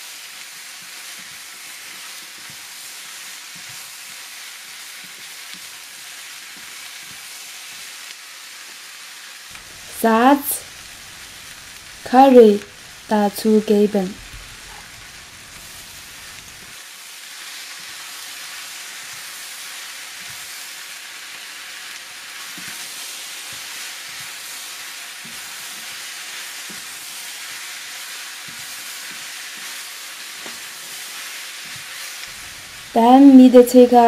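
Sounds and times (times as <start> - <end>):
food sizzling in a wok: 0.0 - 34.0.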